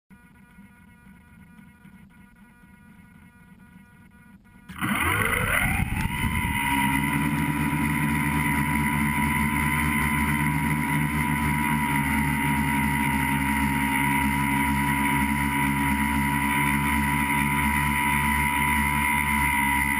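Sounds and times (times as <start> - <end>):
drone motors whining: 0.1 - 19.9.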